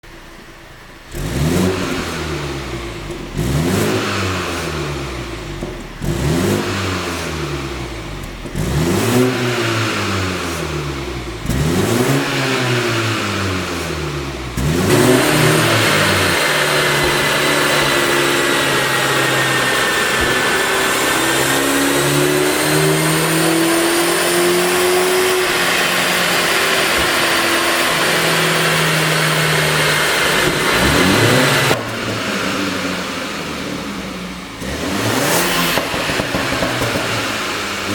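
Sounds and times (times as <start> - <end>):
car engine revving: 0.3 - 37.9.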